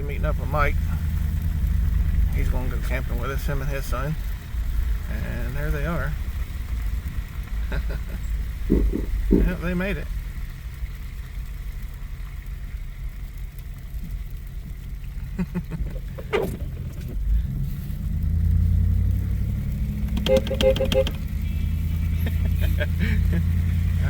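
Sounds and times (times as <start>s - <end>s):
road noise inside cab: 0.0s - 24.0s
truck engine rumble: 0.0s - 24.0s.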